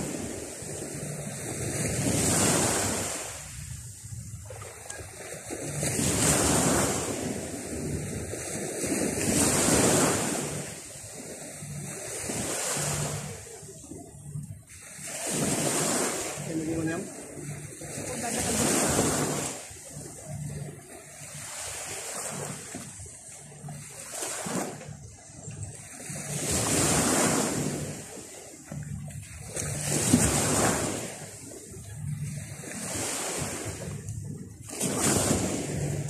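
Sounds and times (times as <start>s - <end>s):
sea waves breaking on shore: 0.0s - 36.0s.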